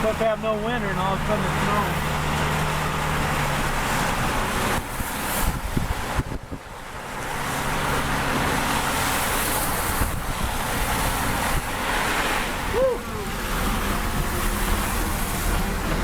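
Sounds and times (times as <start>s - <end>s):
low steady engine hum: 0.0s - 16.0s
wind buffeting microphone: 2.1s - 16.0s.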